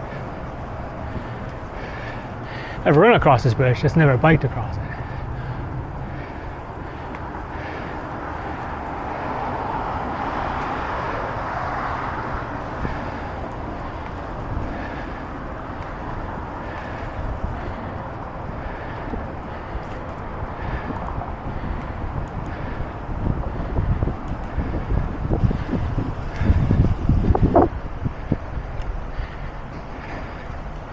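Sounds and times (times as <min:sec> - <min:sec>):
outdoor traffic: 0:00.0 - 0:30.9
wind noise: 0:00.0 - 0:30.9.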